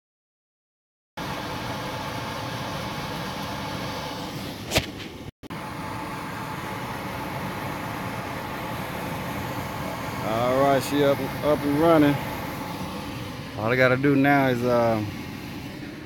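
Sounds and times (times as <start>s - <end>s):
furnace blower hum: 1.2s - 16.0s.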